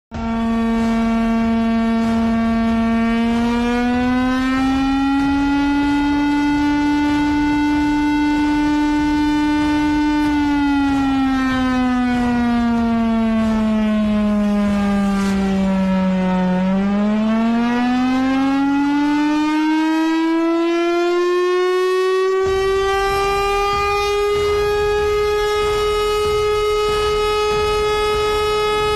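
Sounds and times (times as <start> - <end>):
siren wailing: 0.1 - 28.9.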